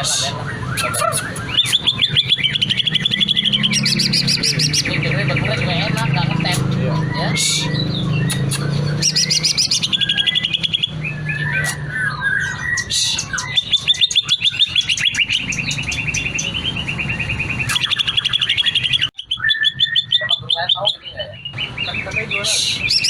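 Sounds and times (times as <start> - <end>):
bird chattering and trilling: 0.0 - 23.0.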